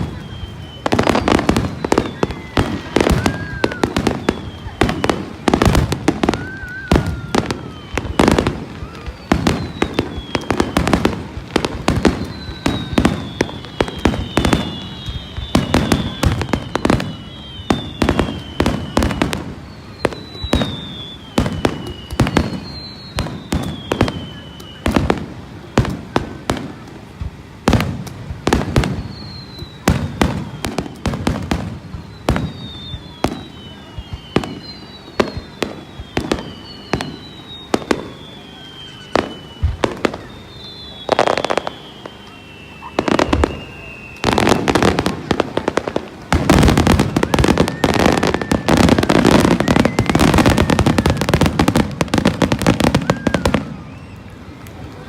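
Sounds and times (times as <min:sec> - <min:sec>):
falling firework whistles: 0:00.0 - 0:55.0.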